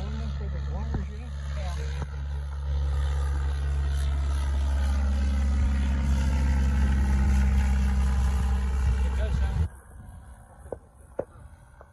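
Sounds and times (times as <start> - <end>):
light aircraft engine drone: 0.0 - 11.9.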